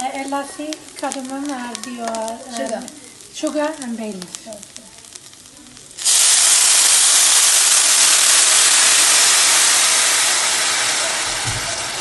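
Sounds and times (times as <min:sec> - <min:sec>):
water hissing in hot pan: 0:00.0 - 0:12.0.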